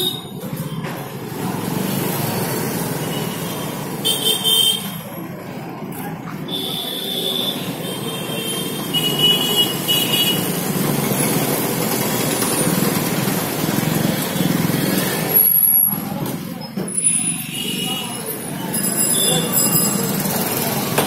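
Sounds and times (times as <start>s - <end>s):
motorcycles and vehicles running: 0.0s - 21.0s.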